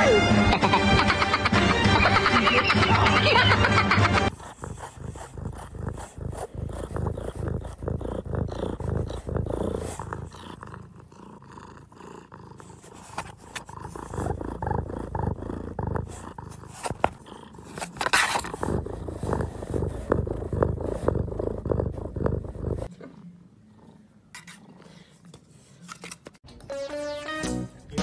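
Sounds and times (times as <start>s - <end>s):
cat purring: 1.9s - 25.2s.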